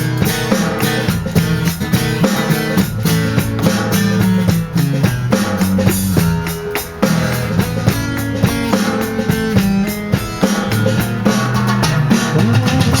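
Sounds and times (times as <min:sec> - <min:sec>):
blues band playing: 0:00.0 - 0:13.0
drum kit steady beat: 0:00.0 - 0:13.0
guitar: 0:00.0 - 0:13.0.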